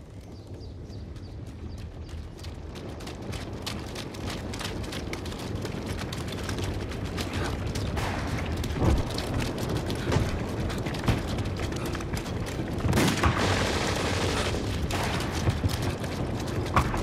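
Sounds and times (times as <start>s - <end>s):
crackle of gunfire: 1.4s - 17.0s.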